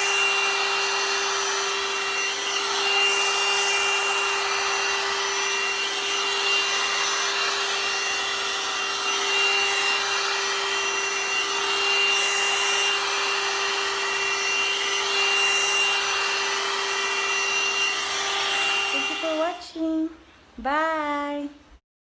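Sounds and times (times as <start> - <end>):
hot-air brush blowing: 0.0 - 20.4.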